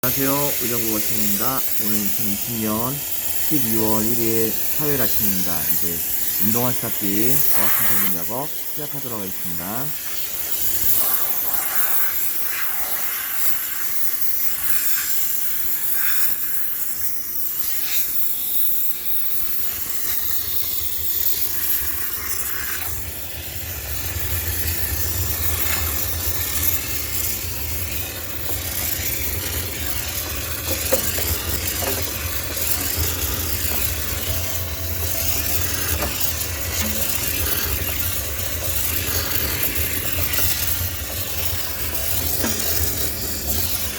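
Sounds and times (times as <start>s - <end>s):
steam cleaner hissing: 0.0s - 43.9s.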